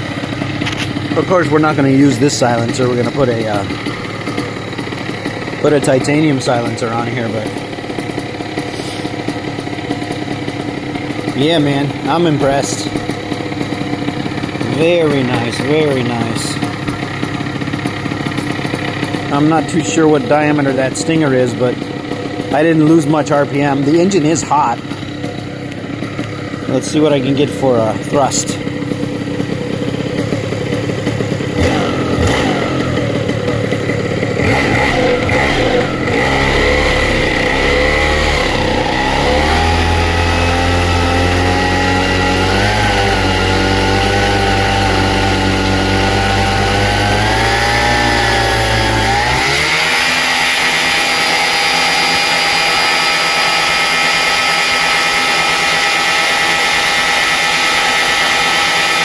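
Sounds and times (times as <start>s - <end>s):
paramotor engine revving: 0.0s - 59.0s.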